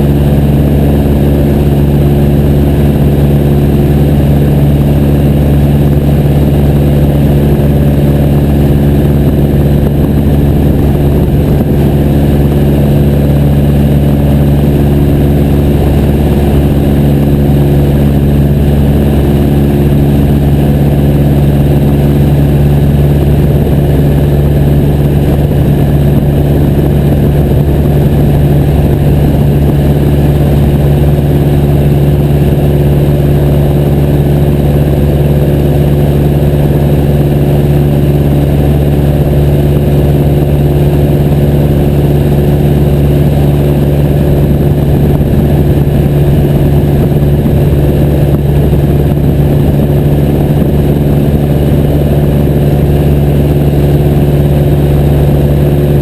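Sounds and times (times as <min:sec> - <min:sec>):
small plane engine droning: 0:00.0 - 0:56.0.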